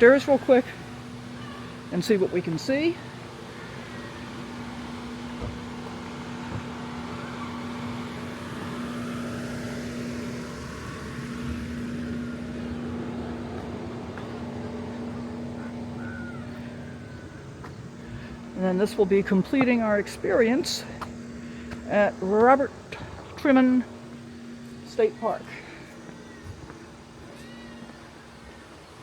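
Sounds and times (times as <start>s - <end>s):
constant low hum: 0.0s - 29.0s.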